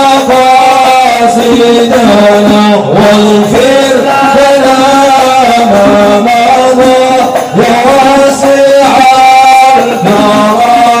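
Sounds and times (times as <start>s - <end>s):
men singing together: 0.0s - 11.0s.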